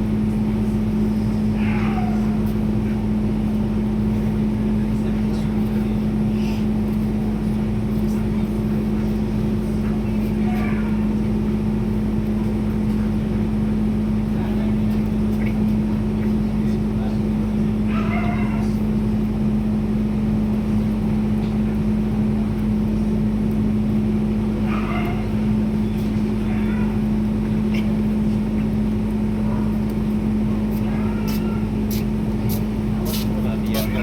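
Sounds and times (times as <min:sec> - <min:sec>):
faint voices: 0:00.2 - 0:34.0.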